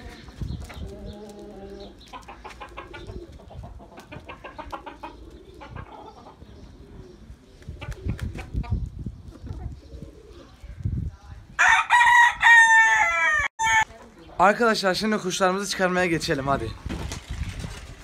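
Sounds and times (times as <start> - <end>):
hens and roosters clucking: 0.0 - 15.1.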